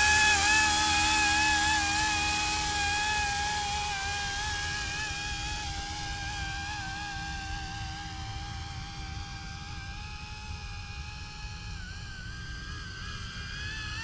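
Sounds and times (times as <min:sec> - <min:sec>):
rc helicopter rotor whine: 0:00.0 - 0:14.0.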